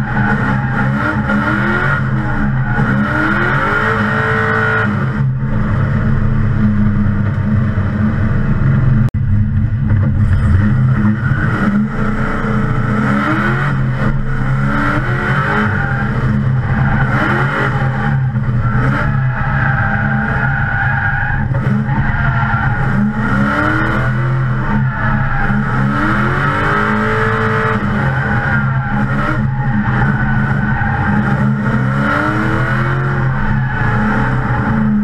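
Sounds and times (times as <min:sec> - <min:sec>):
car engine revving hard: 0:00.0 - 0:07.4, 0:10.2 - 0:35.0.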